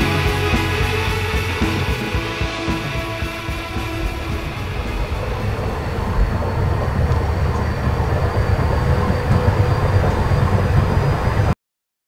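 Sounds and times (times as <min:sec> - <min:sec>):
faint steady high tones: 0:00.0 - 0:11.3
dense low rumbling noise: 0:00.0 - 0:11.6.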